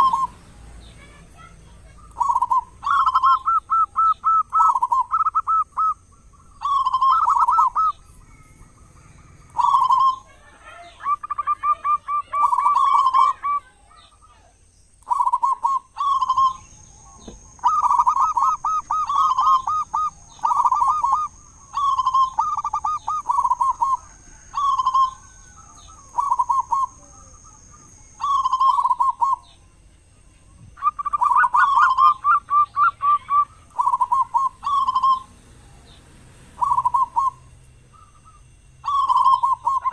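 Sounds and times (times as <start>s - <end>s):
dove cooing: 0.0s - 14.4s, 15.0s - 29.7s, 30.5s - 39.9s
faint high whine: 0.0s - 39.9s.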